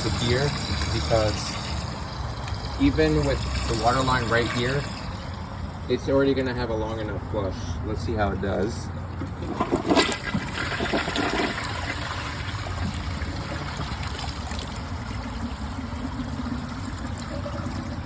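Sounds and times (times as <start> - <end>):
toilet flushing: 0.0 - 7.1, 9.1 - 18.0
steady run of water: 0.0 - 18.0.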